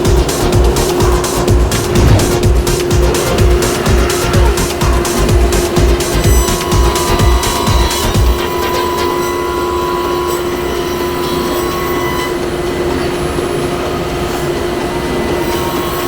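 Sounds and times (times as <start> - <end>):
woodworking machine humming: 0.0 - 16.0.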